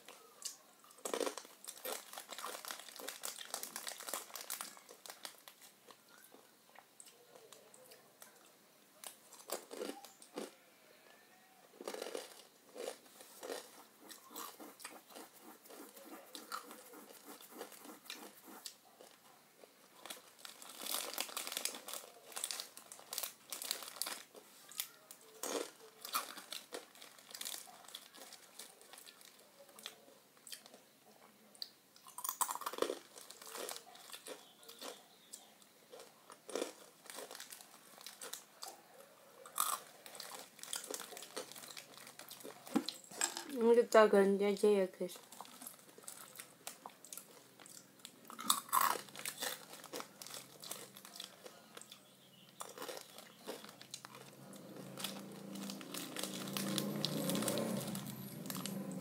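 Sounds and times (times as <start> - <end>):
crunching and crackling clicks: 0.0 - 10.6, 11.8 - 30.8, 31.6 - 43.4, 45.2 - 59.0.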